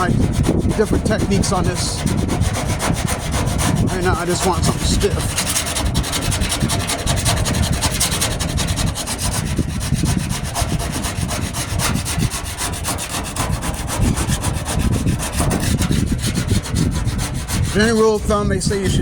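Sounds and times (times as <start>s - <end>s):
sanding and rasping filler: 0.0s - 19.0s.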